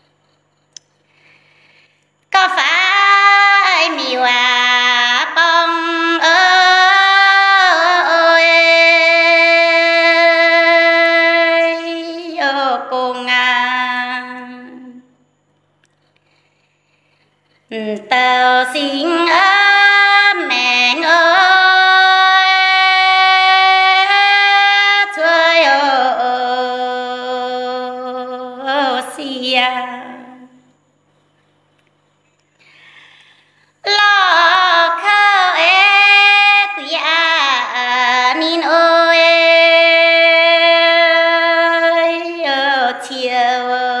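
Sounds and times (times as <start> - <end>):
woman singing unaccompanied: 2.3 - 15.1, 17.7 - 30.7, 33.8 - 44.0.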